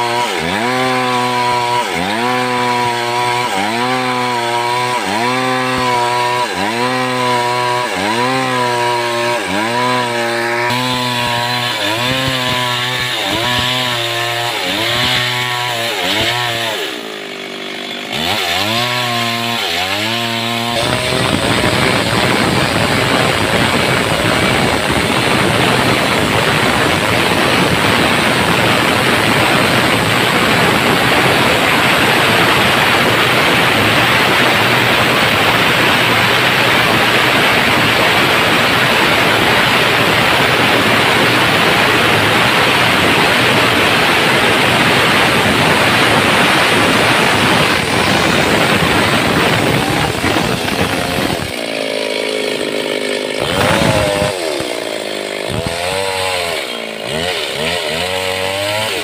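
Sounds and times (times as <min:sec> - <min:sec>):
chainsaw cutting timber: 0:00.0 - 0:59.0.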